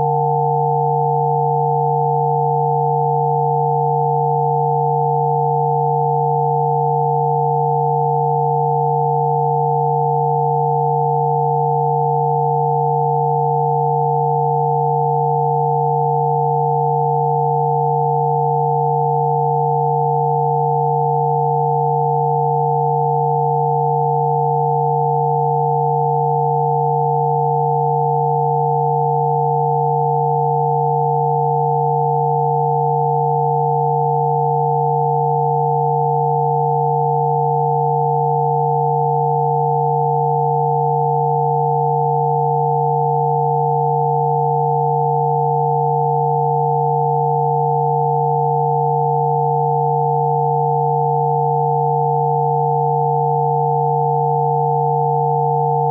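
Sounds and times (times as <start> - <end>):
low steady sine tone: 0.0 - 55.9.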